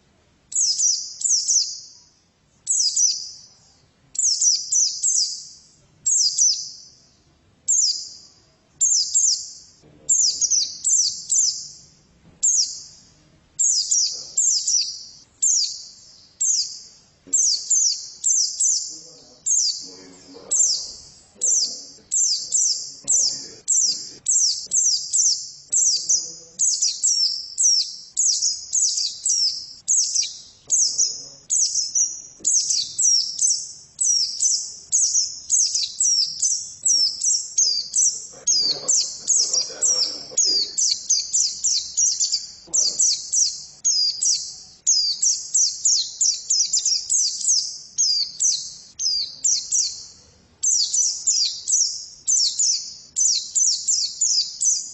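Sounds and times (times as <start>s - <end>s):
bird singing high chirps: 0.0s - 54.9s.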